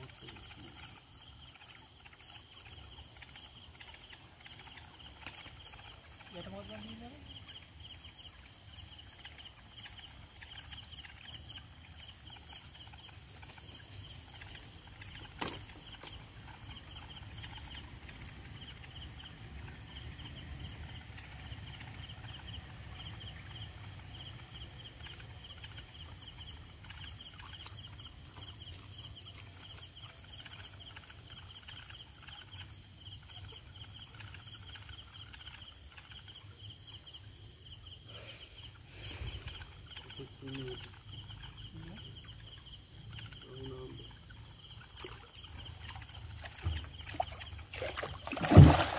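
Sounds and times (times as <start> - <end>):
night insects chirping: 0.0 - 48.9.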